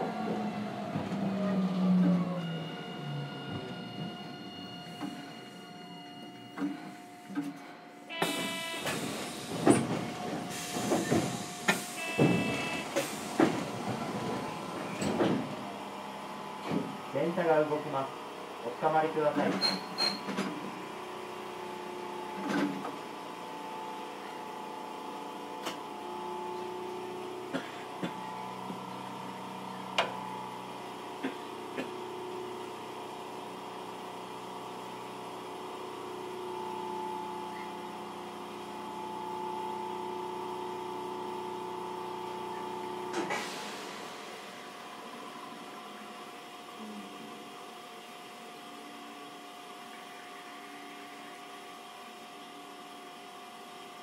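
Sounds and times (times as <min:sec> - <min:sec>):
tram rolling noise: 0:00.0 - 0:52.9
tram electric whine: 0:00.0 - 0:54.0.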